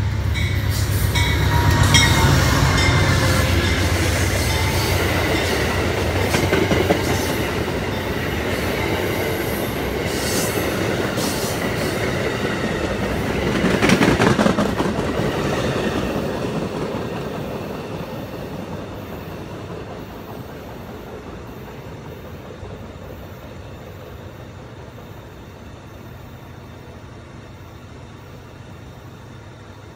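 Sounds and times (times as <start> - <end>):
train cars rolling on rails: 0.0 - 29.9.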